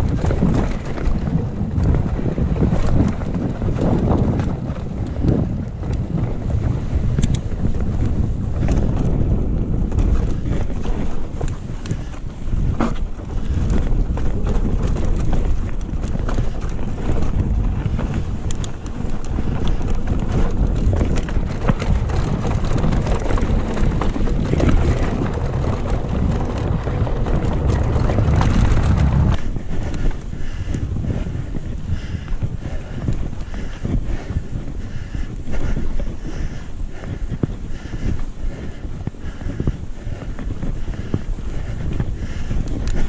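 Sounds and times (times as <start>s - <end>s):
tyres rumbling over rock: 0.0s - 36.5s
bike clicks and rattles: 0.0s - 43.0s
wind buffeting the microphone: 0.0s - 43.0s.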